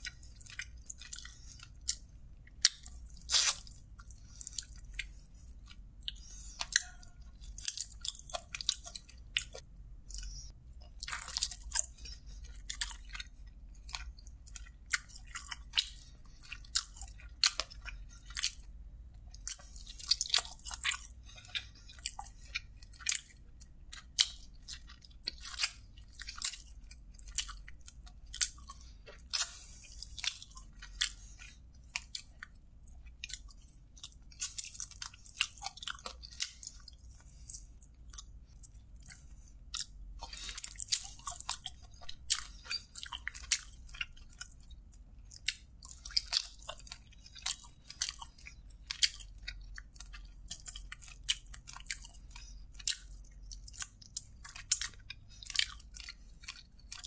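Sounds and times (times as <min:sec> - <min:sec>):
chewing and lip-smacking: 0:00.0 - 0:57.0.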